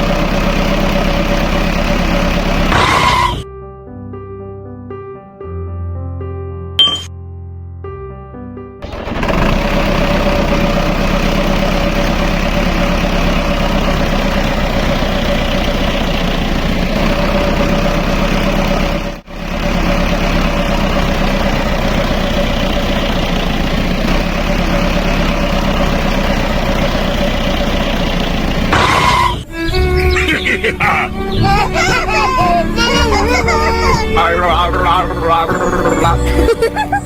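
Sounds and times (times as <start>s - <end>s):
tractor engine idling: 0.0s - 3.4s, 8.8s - 37.0s.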